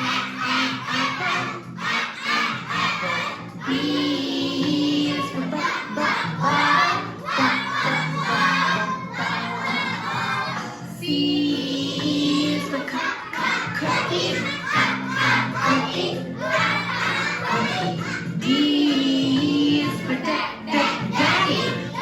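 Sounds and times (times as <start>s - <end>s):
background music with held notes: 0.0s - 22.0s
children singing and chanting: 0.0s - 22.0s.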